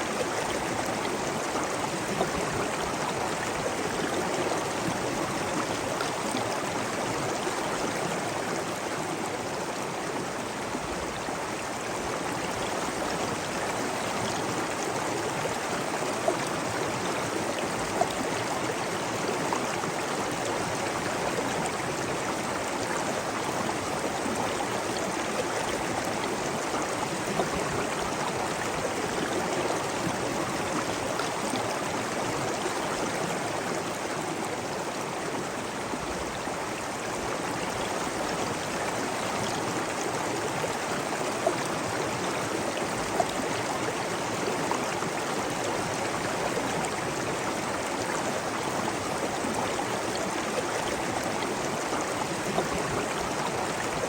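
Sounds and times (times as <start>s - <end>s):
water rushing and babbling: 0.0s - 54.0s.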